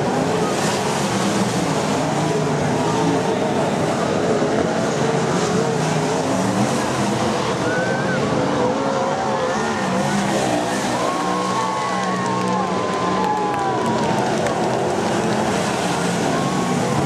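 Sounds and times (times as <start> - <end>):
racing car engines roaring: 0.0 - 17.0.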